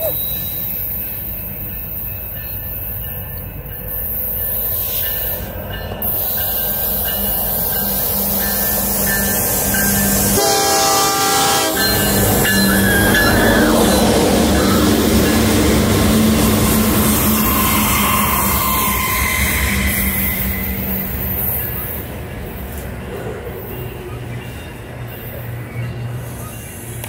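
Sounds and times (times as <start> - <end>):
locomotive engines droning: 0.0 - 27.0
train low rumble: 0.0 - 27.0
wheels squealing on rails: 0.0 - 27.0.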